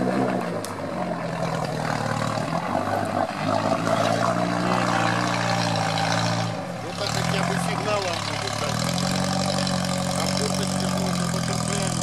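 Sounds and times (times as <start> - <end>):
engine pulling under load: 0.0 - 12.0.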